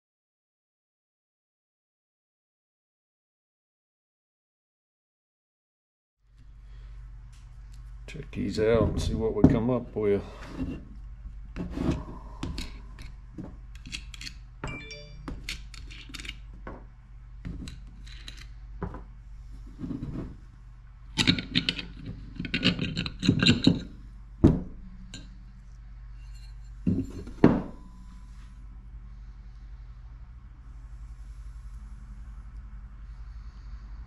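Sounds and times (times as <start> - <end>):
steady low hum: 6.2 - 34.0.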